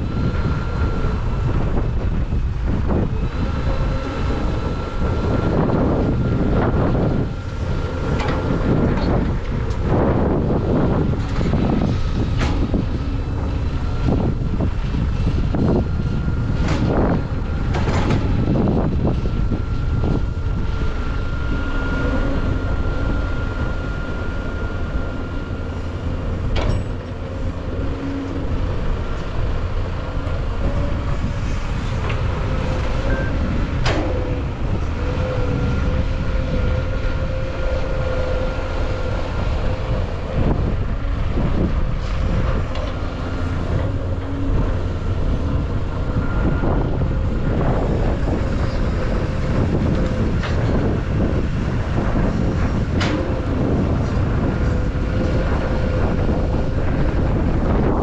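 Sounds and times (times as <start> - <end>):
faint steady whine: 0.0 - 58.0
heavy machinery engine rumble: 0.0 - 58.0.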